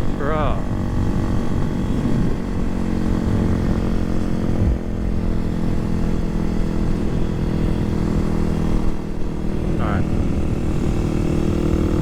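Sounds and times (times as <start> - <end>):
low wind rumble: 0.0 - 12.0
motorcycle engine running: 0.0 - 12.0.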